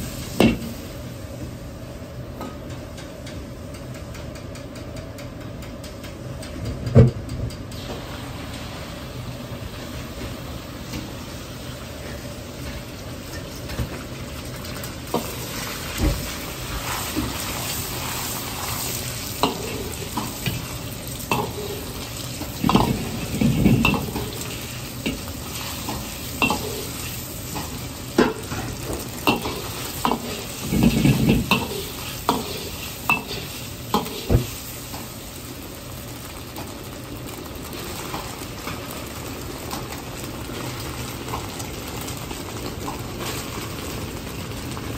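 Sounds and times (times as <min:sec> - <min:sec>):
egg sizzling in hot oil: 0:07.8 - 0:44.9.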